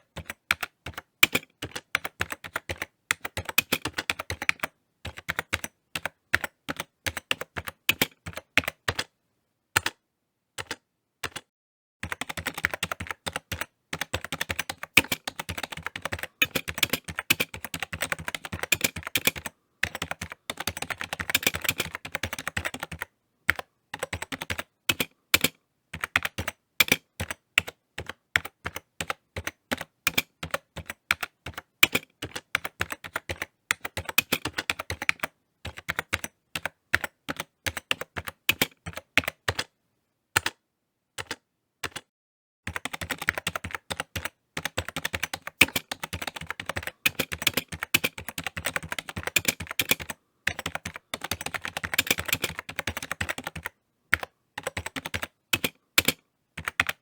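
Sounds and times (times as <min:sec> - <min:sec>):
typing on computer keyboard: 0:00.0 - 0:09.1, 0:09.8 - 0:10.0, 0:10.6 - 0:39.7, 0:40.4 - 0:40.6, 0:41.2 - 0:42.1, 0:42.7 - 0:57.0.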